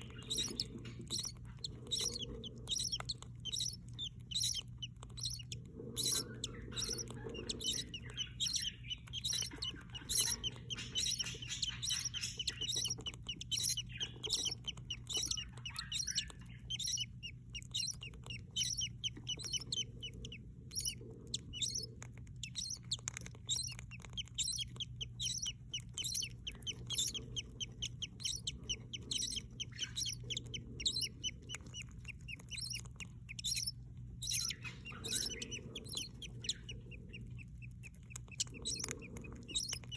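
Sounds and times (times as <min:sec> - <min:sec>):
budgies chirping: 0:00.0 - 0:39.9
steady low hum: 0:00.0 - 0:39.9.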